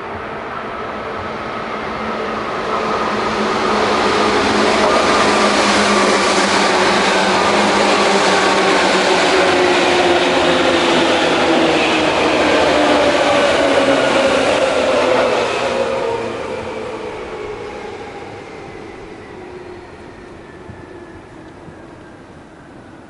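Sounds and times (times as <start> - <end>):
wheels rumbling on rail: 0.0 - 23.0.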